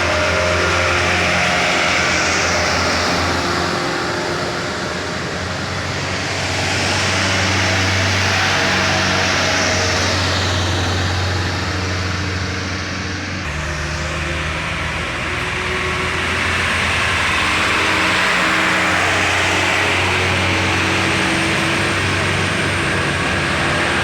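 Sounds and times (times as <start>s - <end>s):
loud rushing noise: 0.0s - 24.0s
low engine hum: 0.0s - 24.0s.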